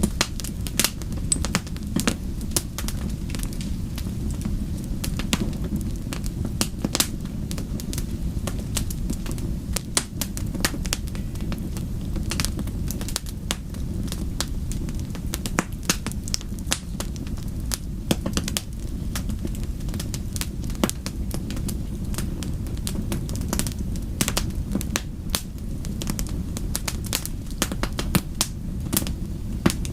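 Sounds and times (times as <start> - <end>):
low rumble of flames: 0.0 - 29.9
wood crackling and popping: 0.0 - 29.9.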